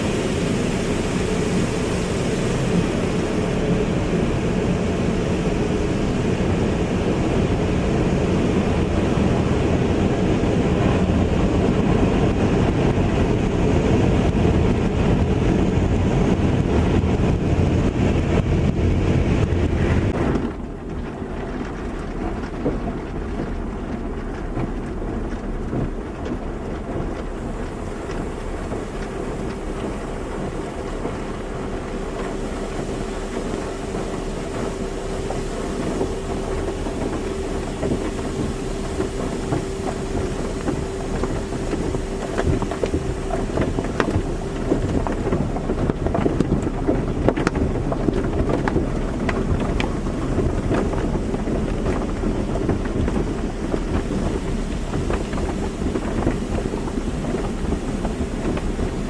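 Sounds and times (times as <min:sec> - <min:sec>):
spraying water and machinery: 0:00.0 - 0:59.0.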